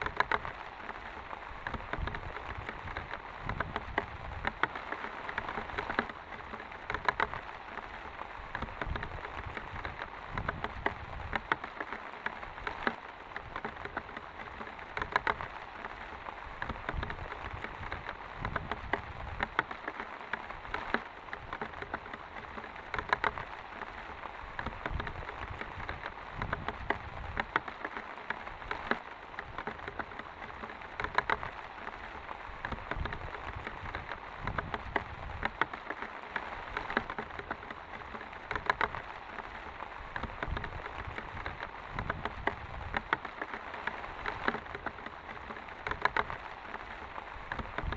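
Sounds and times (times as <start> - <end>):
sharp raindrop impacts: 0.0 - 47.9.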